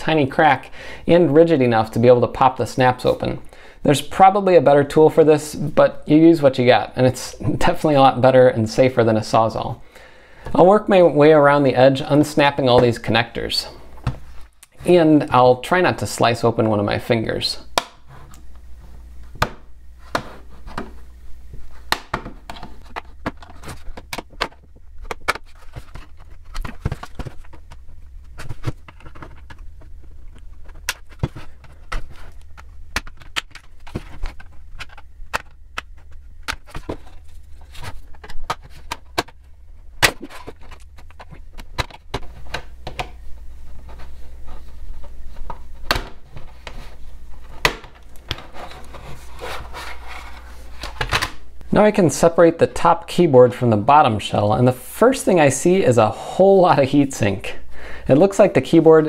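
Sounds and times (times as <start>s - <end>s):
steady low hum: 0.0s - 58.8s.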